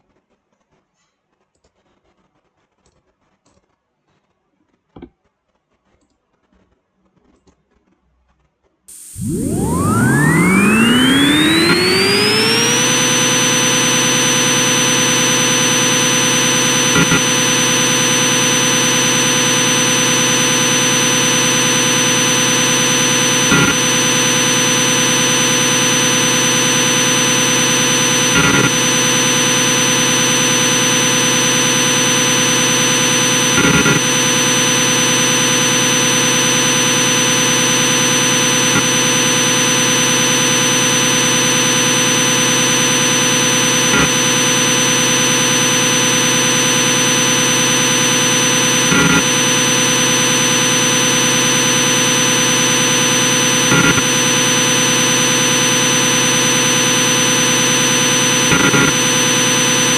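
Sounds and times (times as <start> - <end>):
machine whining and humming: 8.9 - 59.9.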